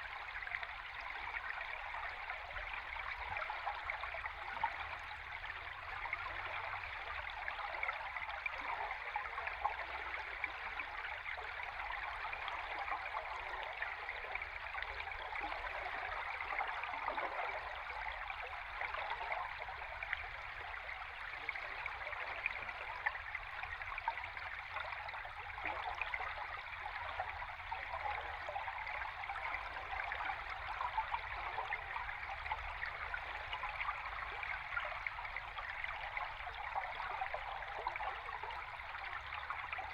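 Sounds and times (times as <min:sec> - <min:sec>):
underwater stream bubbling: 0:00.0 - 0:39.9.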